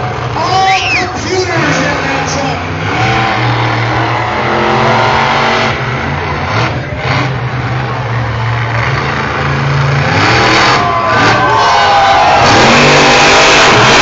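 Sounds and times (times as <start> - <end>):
loud truck engine rumbling: 0.0 - 14.0.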